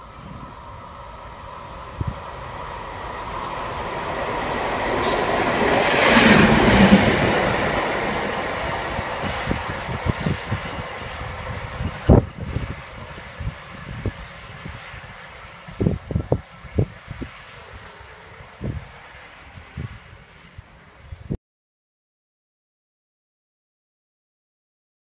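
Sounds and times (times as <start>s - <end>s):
train passing: 0.0s - 21.4s.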